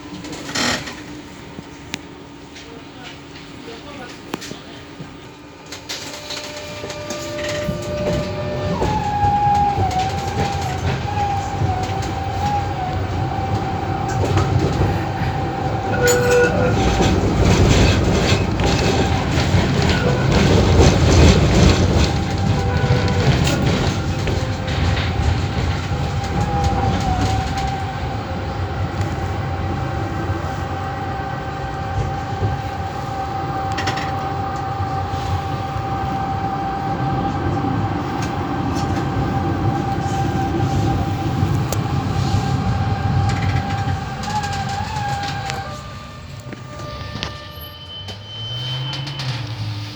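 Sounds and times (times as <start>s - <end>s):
tram clattering over rail joints: 0.0s - 49.9s
tram whine on track: 0.0s - 49.9s.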